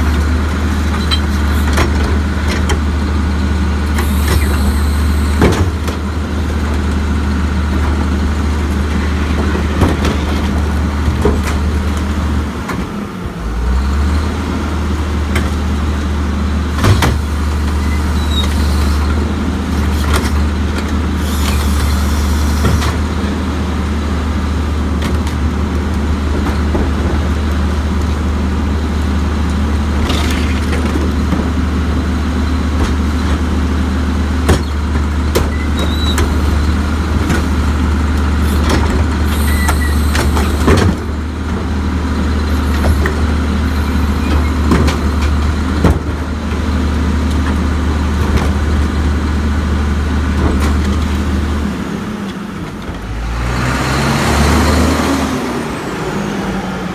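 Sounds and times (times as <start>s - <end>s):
garbage truck diesel engine running: 0.0s - 56.9s.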